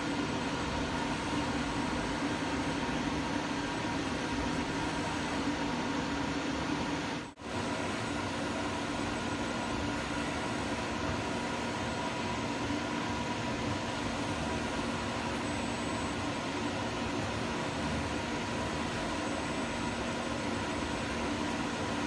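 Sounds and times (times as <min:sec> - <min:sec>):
boring machine hum and hiss: 0:00.0 - 0:22.0.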